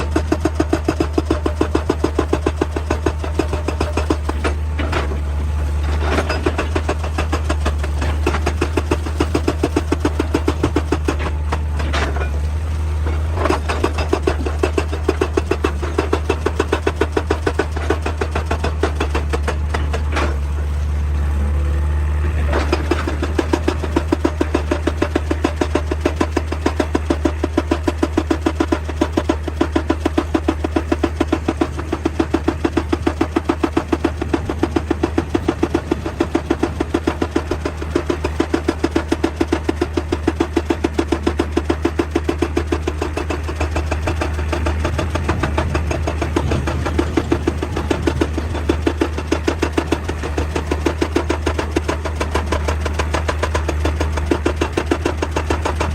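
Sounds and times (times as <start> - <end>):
hydraulic breaker hammering stone: 0.0 - 20.7, 22.4 - 55.9
excavator engine running: 0.0 - 55.9.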